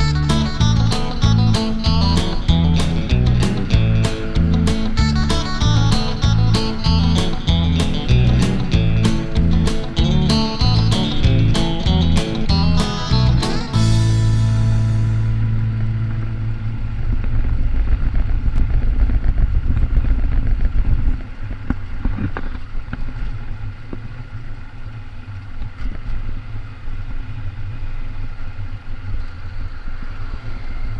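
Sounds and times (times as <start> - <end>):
wind and road noise: 0.0 - 30.9.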